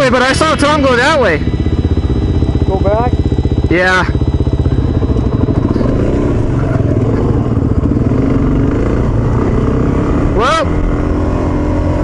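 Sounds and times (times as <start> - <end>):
motorcycle engine running slowly: 0.0 - 12.0.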